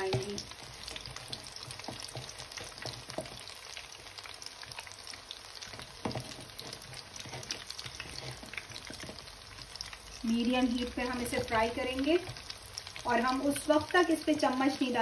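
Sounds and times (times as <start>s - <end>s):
chicken sizzling in oil: 0.0s - 15.0s
oil crackling and popping: 0.0s - 15.0s.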